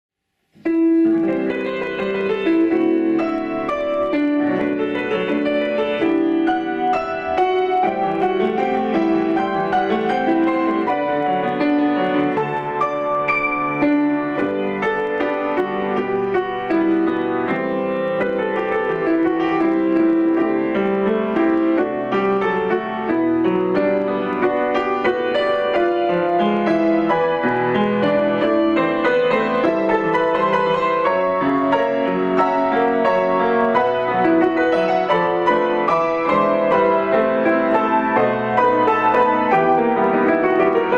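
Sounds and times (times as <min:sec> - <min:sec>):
piano keyboard melody: 0:00.5 - 0:40.9.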